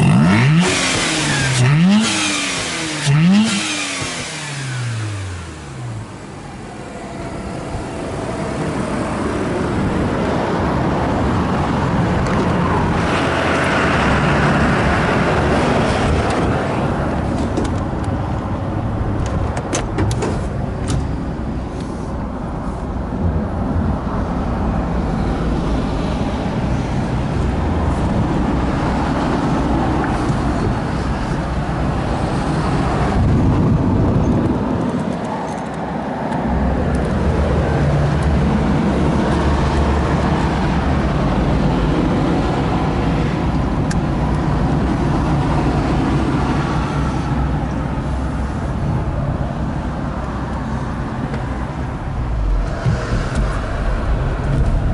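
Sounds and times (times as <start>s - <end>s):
car exhaust drone: 0.0s - 54.9s.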